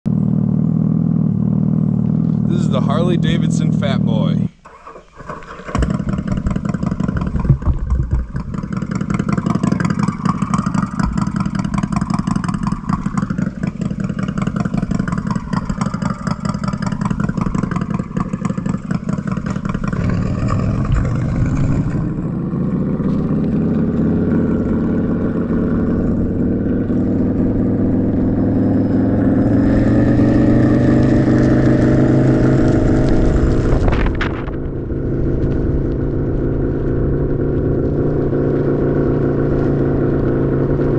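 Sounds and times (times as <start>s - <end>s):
synthetic motorcycle engine sound: 0.1s - 40.9s.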